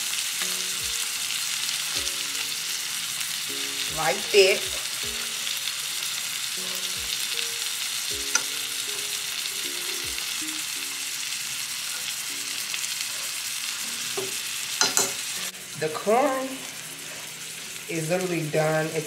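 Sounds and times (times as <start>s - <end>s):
steak sizzling in a skillet: 0.0s - 19.0s.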